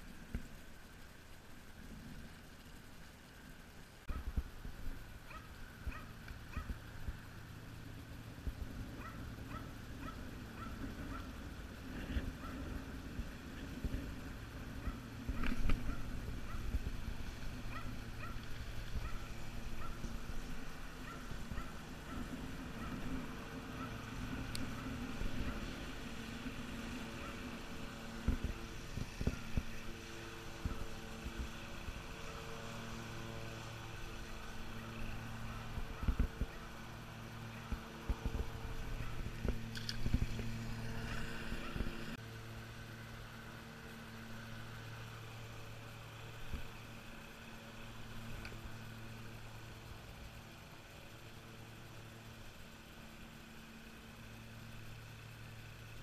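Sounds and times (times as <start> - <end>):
low motor hum: 0.0 - 56.0.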